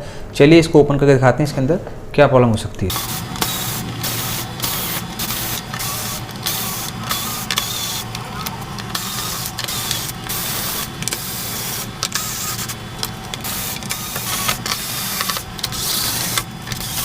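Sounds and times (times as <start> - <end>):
electric screwdriver whirring: 2.9 - 17.0.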